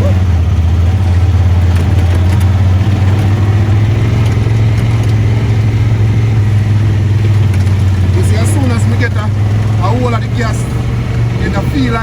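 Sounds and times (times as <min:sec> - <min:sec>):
atv engine droning: 0:00.0 - 0:12.0.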